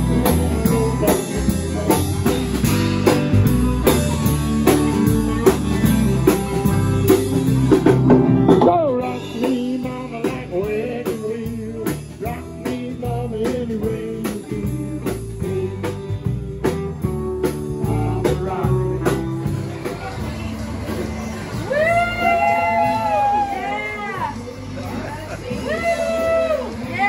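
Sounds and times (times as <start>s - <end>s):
bass guitar: 0.0s - 27.0s
drum kit beat: 0.0s - 27.0s.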